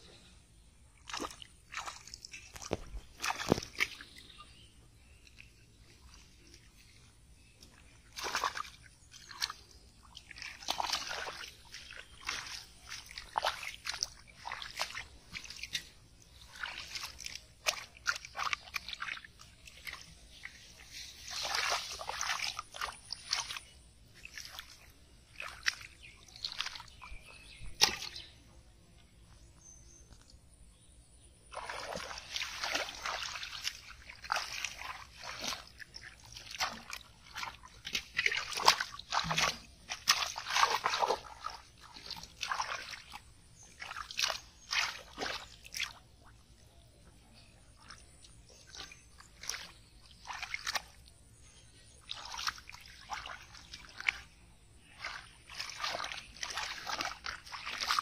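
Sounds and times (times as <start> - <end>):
hands splashing in muddy water: 0.6 - 28.5, 31.5 - 58.0.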